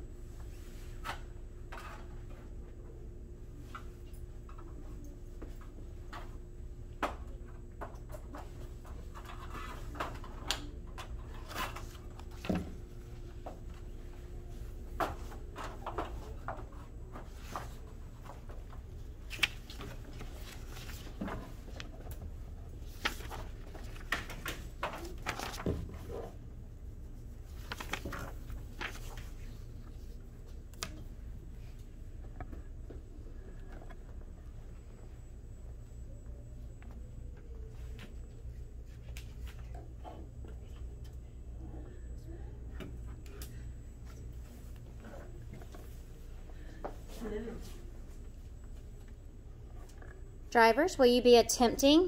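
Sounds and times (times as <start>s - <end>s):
room hum: 0.0s - 52.0s.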